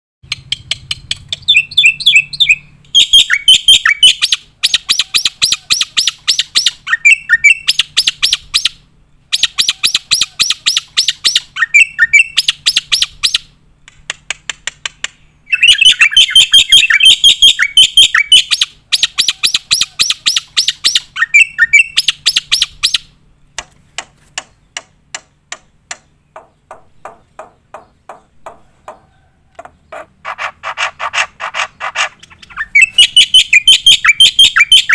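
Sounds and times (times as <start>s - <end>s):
bird singing rapid chattering notes: 0.2s - 14.0s, 14.9s - 34.9s.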